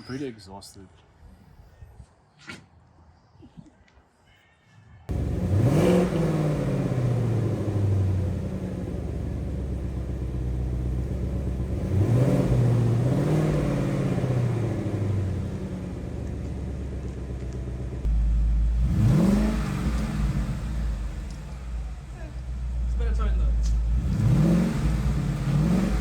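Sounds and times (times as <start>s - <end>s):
car engine revving: 5.1s - 26.0s.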